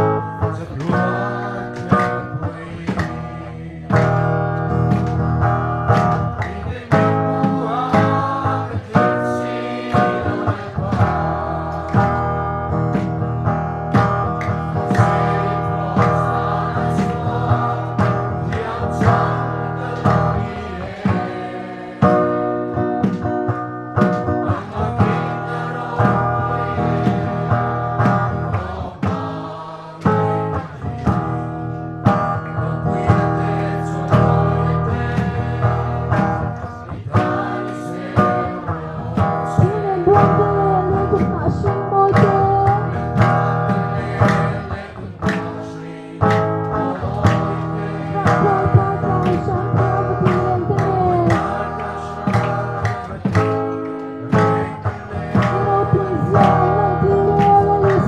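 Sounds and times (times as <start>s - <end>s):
congregation singing a hymn: 0.0s - 58.0s
instrumental accompaniment: 0.0s - 58.0s.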